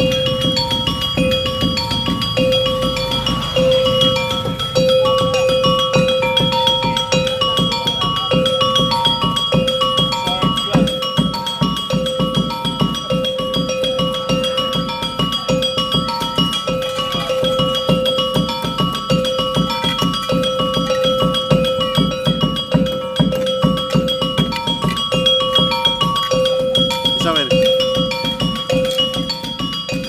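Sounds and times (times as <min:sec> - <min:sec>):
metal mallet instrument melody: 0:00.0 - 0:30.0
quick steady drum beats: 0:00.0 - 0:30.0.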